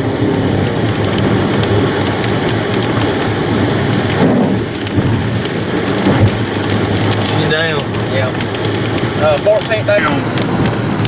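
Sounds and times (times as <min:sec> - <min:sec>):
heavy rain hitting a vehicle: 0:00.0 - 0:11.0.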